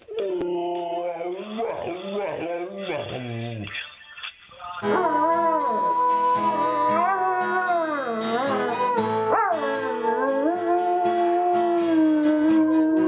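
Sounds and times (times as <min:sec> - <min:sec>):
dog howling: 0:00.0 - 0:03.6, 0:04.8 - 0:13.0.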